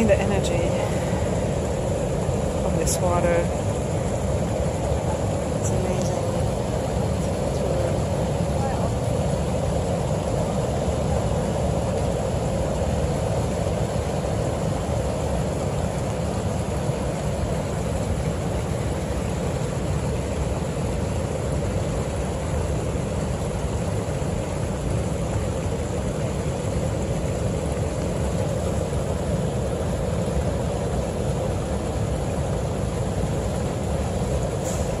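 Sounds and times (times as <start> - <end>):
waves breaking on beach: 0.0 - 35.0.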